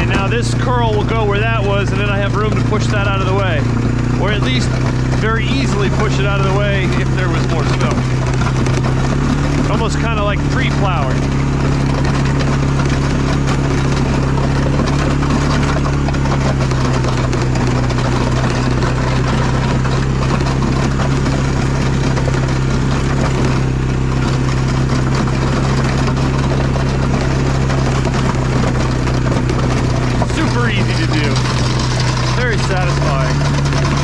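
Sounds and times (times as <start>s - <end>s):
atv engine running: 0.0s - 34.0s
plow blade pushing snow: 0.0s - 34.0s.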